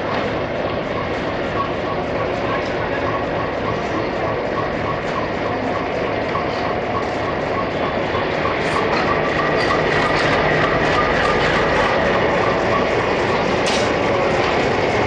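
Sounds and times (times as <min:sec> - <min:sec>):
train rumble on rails: 0:00.0 - 0:15.0.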